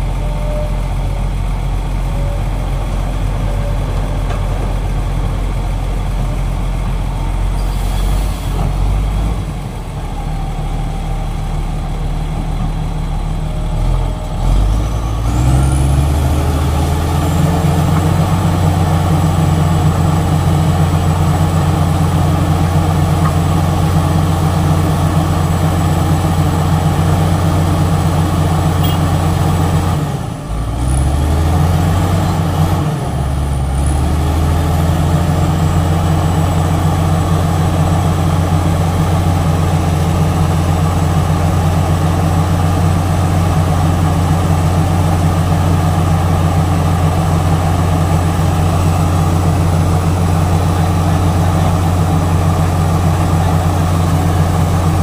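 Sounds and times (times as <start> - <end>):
heavy diesel engines revving: 0.0 - 55.0.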